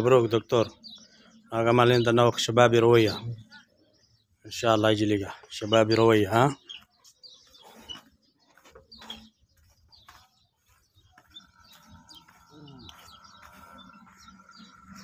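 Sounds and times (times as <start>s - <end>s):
faint small birds chirping: 0.0s - 15.0s.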